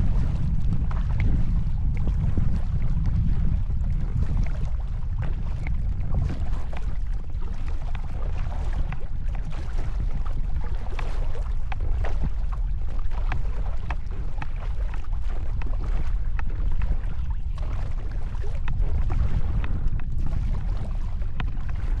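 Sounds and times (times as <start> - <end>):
paddle splashes and drips: 0.0 - 22.0
wind rumbling on microphone: 0.0 - 22.0.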